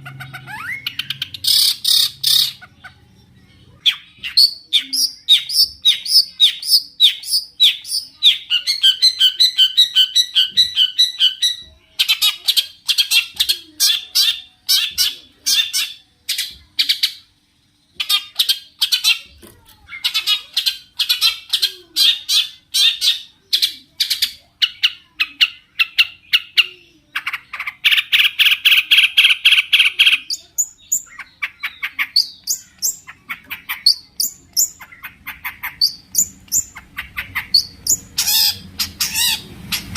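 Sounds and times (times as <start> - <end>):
bird singing rapid trills: 0.0 - 19.3, 19.9 - 39.9.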